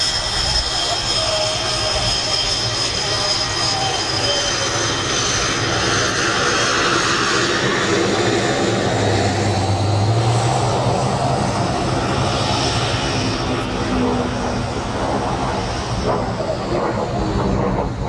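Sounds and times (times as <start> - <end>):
jet engine whining: 0.0 - 18.0.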